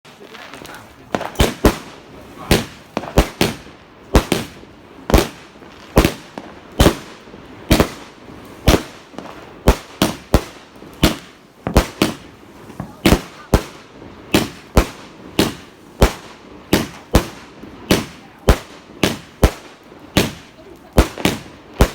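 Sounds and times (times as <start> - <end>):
fireworks bangs: 0.1 - 21.9.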